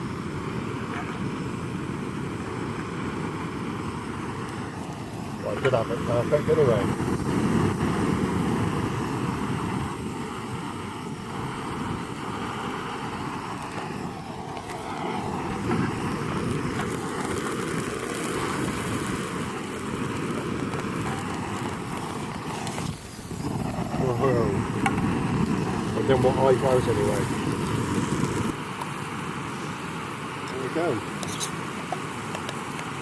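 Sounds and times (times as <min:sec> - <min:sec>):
camping stove burner: 0:00.0 - 0:33.0.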